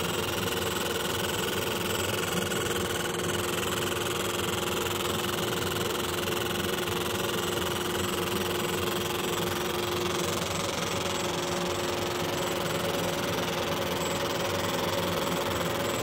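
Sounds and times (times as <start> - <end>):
laser engraver humming: 0.0 - 16.0.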